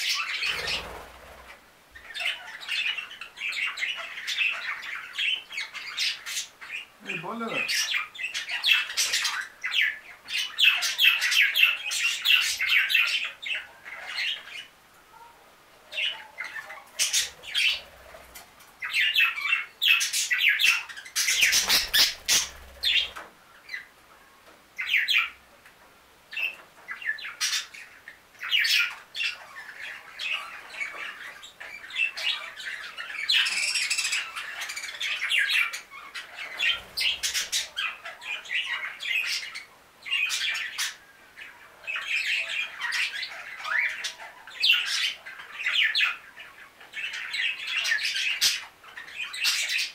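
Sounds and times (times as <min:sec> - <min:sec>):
budgerigars chirping: 0:00.0 - 0:14.8, 0:15.9 - 0:23.9, 0:26.3 - 0:49.9.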